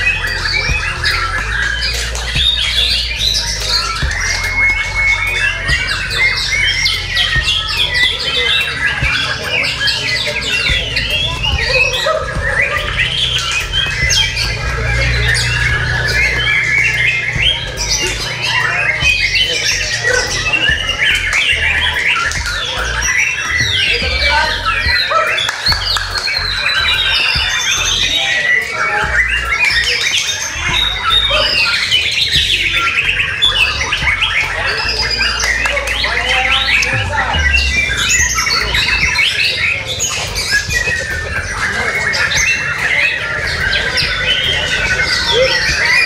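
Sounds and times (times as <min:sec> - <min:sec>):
birds singing whistled phrases: 0:00.0 - 0:46.0.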